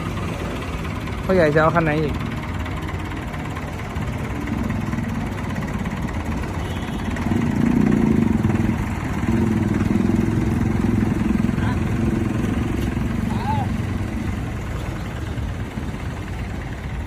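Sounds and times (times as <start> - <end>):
tractor engine revving: 0.0 - 17.0.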